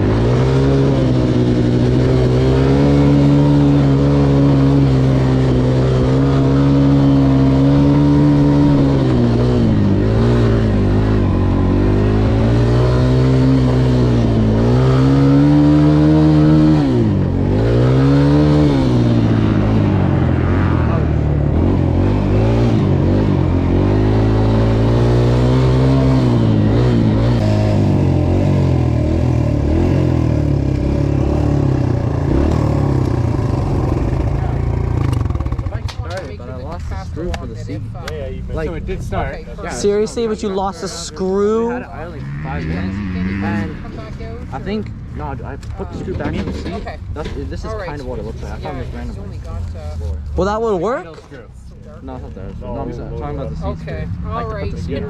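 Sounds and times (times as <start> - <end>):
dirt bike engine revving: 0.0 - 49.2.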